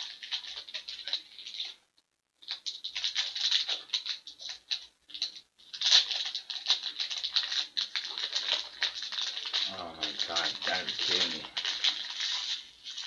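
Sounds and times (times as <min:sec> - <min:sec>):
foil wrapper crinkling: 0:00.0 - 0:01.8, 0:02.4 - 0:13.0.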